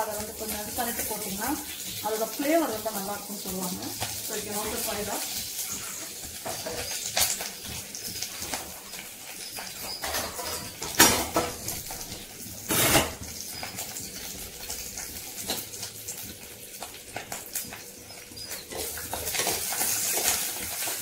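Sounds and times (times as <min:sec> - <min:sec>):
leaves crackling in hot oil: 0:00.0 - 0:21.0.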